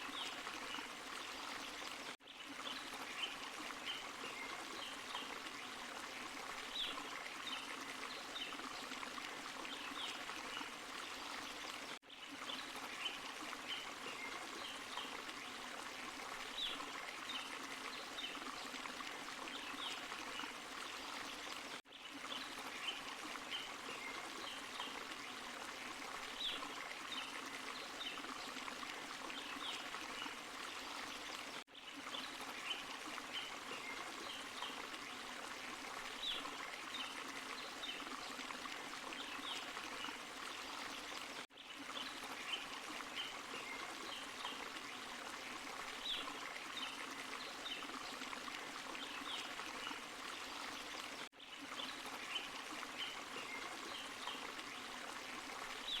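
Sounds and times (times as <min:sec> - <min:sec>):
stream and waterfall pouring: 0:00.0 - 0:56.0.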